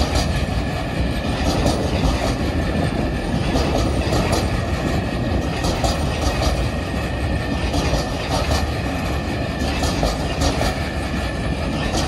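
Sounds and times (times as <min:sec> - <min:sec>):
steel wheels rumbling on rail: 0:00.0 - 0:12.0
wheels clicking over rail joints: 0:00.0 - 0:12.0.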